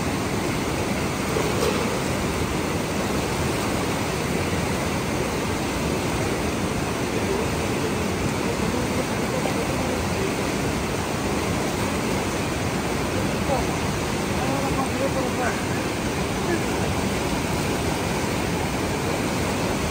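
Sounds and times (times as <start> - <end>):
river rushing over stones: 0.0 - 19.9.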